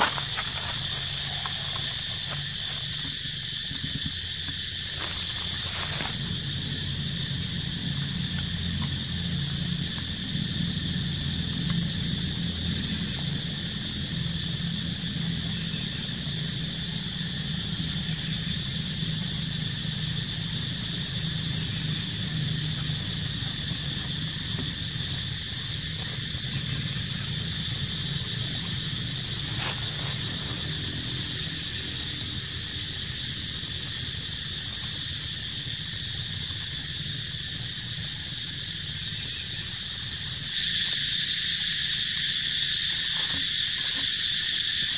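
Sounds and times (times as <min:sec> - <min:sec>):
low steady rumble: 0:00.0 - 0:40.5
insect chorus buzzing: 0:00.0 - 0:44.9.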